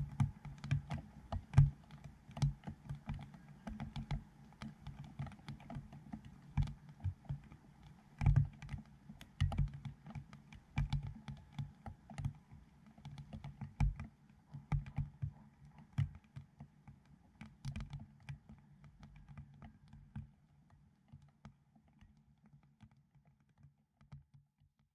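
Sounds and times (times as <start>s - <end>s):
raindrops ticking on plastic: 0.0s - 24.3s.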